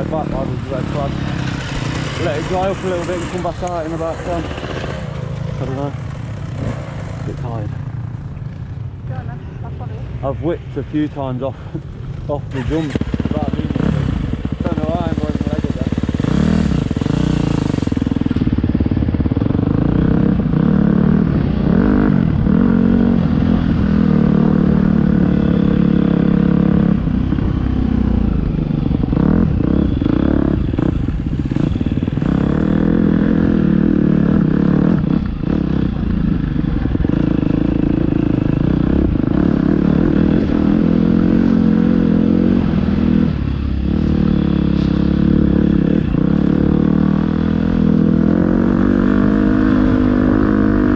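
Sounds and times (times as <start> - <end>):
dirt bike engine revving: 0.0 - 8.0, 12.2 - 50.9.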